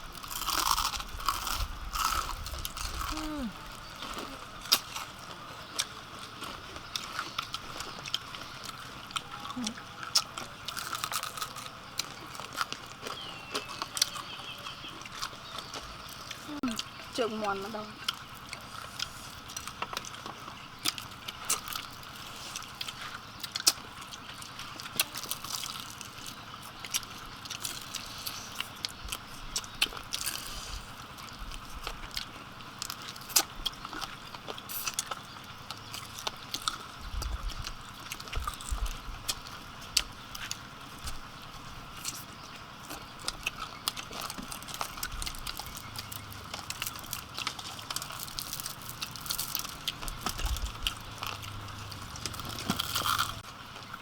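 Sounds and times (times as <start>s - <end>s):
person crunching food: 0.0s - 17.1s, 18.0s - 54.0s.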